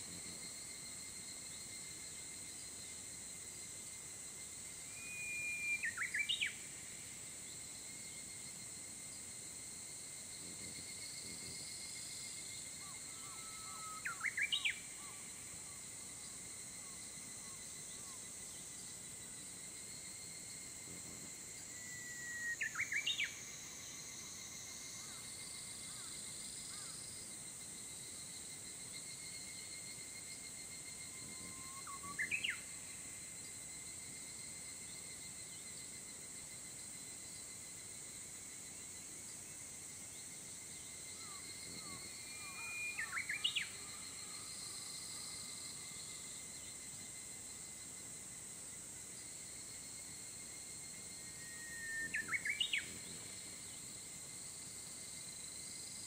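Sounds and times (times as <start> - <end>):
insects humming: 0.0 - 56.0.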